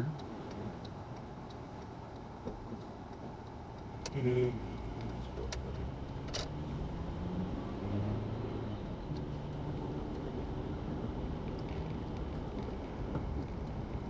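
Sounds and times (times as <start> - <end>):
car engine hum and road noise: 0.0 - 14.0.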